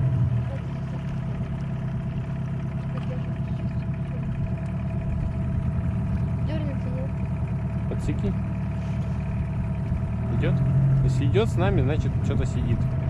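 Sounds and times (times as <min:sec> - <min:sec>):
boat motor humming with whine: 0:00.0 - 0:13.0.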